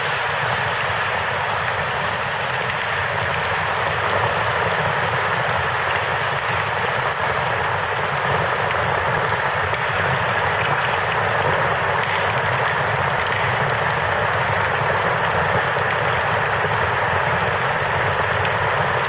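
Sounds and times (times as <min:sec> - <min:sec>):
faint campfire crackle: 0:00.0 - 0:19.0
river flowing: 0:00.0 - 0:19.0.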